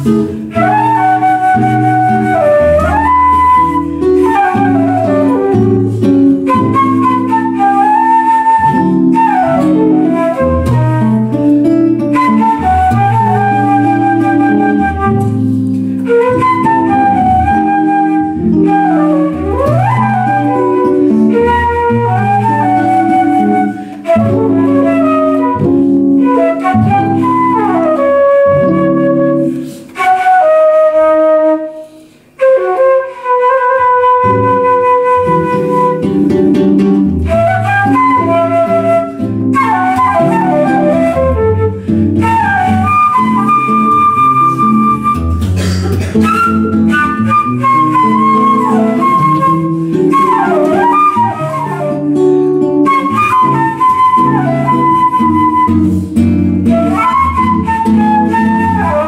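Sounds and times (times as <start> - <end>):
woodwind playing slow melody: 0.0 - 36.4, 37.2 - 45.4, 46.1 - 59.0
jazz guitar chords: 0.0 - 59.0.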